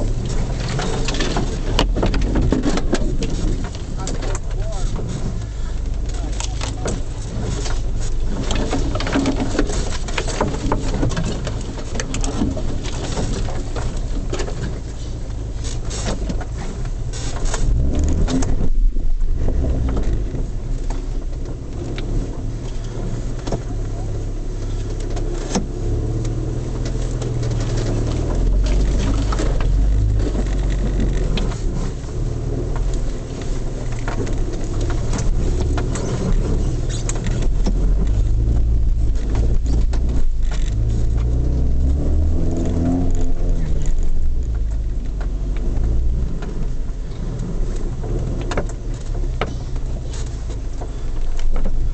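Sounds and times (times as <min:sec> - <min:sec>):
branches brushing against car body: 0:00.0 - 0:51.9
car engine running at low speed: 0:00.0 - 0:51.9
sharp knocks and rattles: 0:00.0 - 0:51.9.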